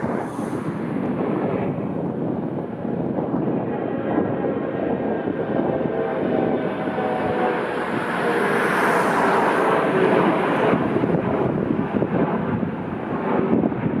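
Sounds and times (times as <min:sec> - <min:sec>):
airliner engines roaring: 0:00.0 - 0:14.0
wind buffeting microphone: 0:00.0 - 0:14.0.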